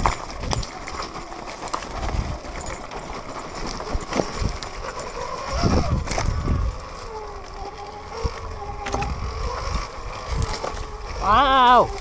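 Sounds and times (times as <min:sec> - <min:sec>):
dirt bike knocks and clatter: 0:00.0 - 0:07.6, 0:08.8 - 0:10.8
faint electric motor whine: 0:00.0 - 0:12.0.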